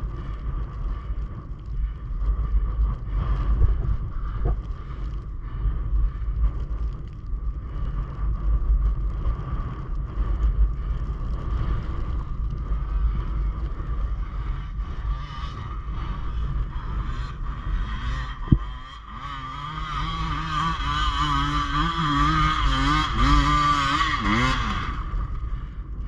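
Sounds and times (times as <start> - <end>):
motorcycle engine running: 0.0 - 6.8, 10.3 - 26.0
wind rumble on microphone: 0.0 - 26.0.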